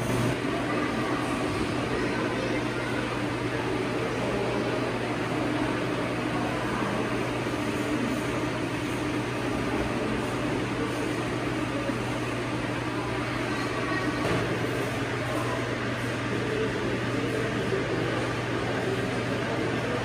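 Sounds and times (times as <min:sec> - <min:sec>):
electric fans whirring: 0:00.0 - 0:20.0.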